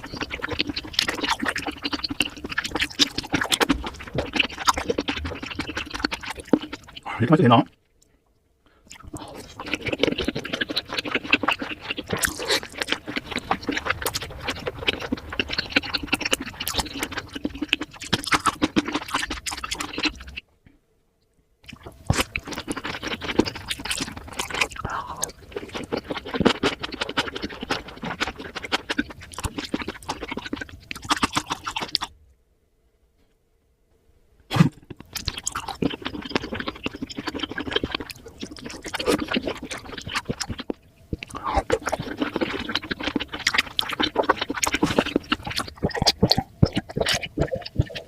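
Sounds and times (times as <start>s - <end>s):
close-miked chewing: 0.0s - 8.1s, 8.7s - 20.4s, 21.6s - 32.1s, 34.5s - 48.0s.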